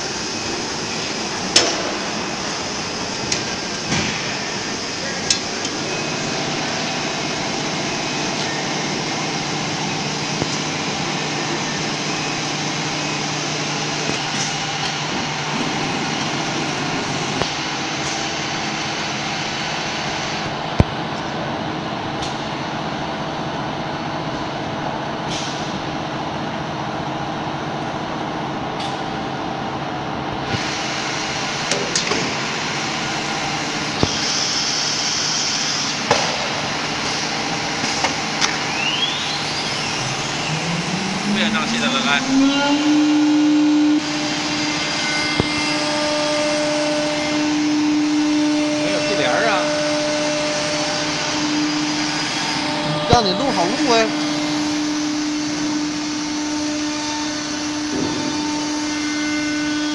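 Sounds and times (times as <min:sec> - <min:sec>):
cnc router machinery drone: 0:00.0 - 0:59.9.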